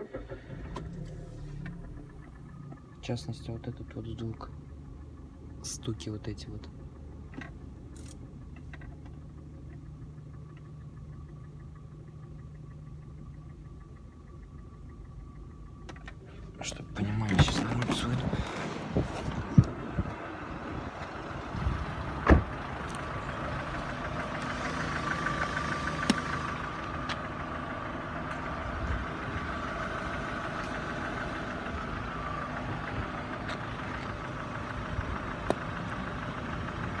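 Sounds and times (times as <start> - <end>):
engine knocking: 0.0 - 16.2, 17.0 - 37.0
car engine running: 0.0 - 37.0.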